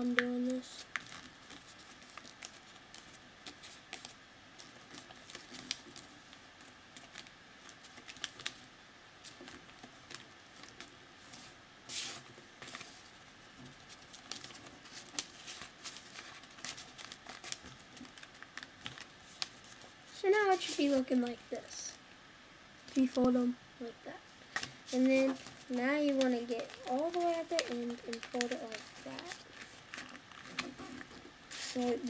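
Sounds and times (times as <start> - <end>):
paper being folded and creased: 0.0 - 8.6, 9.2 - 13.1, 13.8 - 21.2, 24.5 - 32.0
paper rustling: 0.0 - 8.6, 9.2 - 13.1, 13.8 - 21.2, 24.5 - 32.0.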